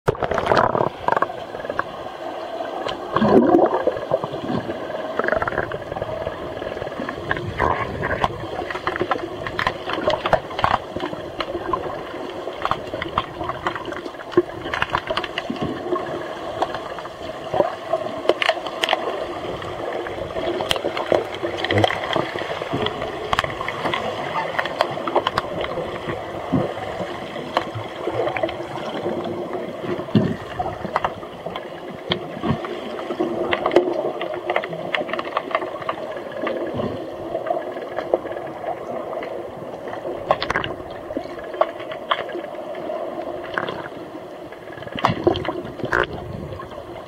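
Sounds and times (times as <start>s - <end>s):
underwater rush of bubbles: 0.1s - 47.0s.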